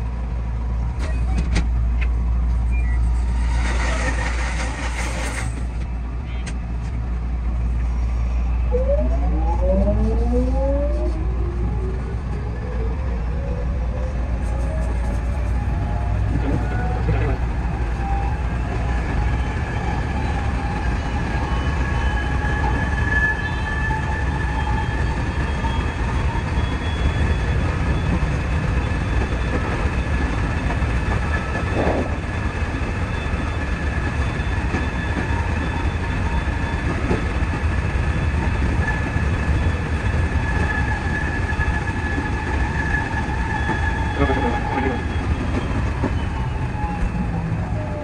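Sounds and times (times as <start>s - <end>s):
train wheels rumbling on rail: 0.0s - 8.5s, 14.2s - 48.0s.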